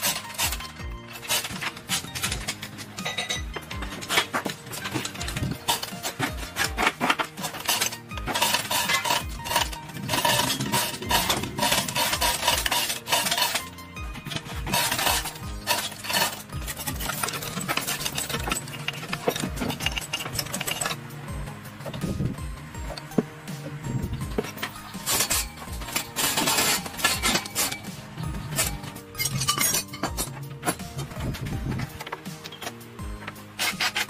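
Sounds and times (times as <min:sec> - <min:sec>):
background music: 0:00.0 - 0:34.0
metal tools clinking on engine: 0:00.0 - 0:34.0.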